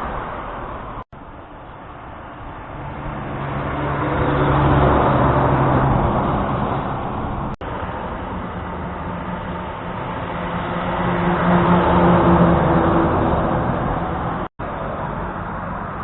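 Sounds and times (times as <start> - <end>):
heavy truck driving past: 0.0 - 16.0.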